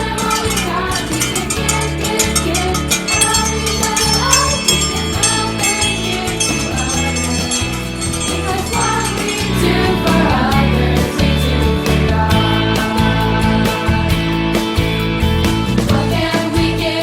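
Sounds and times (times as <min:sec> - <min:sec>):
upbeat song with singing: 0:00.0 - 0:14.3.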